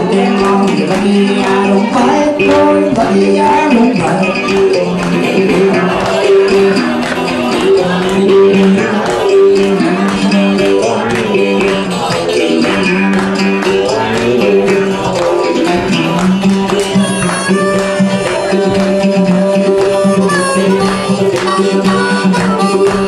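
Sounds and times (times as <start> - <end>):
folk band music: 0.0 - 23.0
guitars strummed: 0.0 - 23.0.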